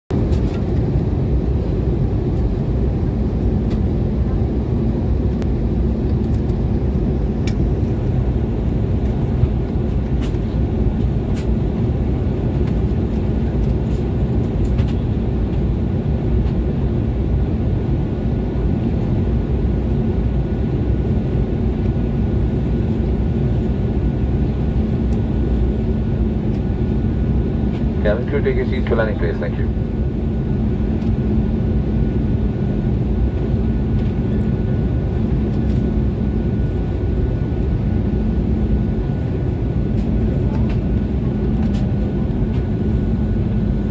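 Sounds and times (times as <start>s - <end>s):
aircraft cabin engine rumble: 0.1s - 43.9s.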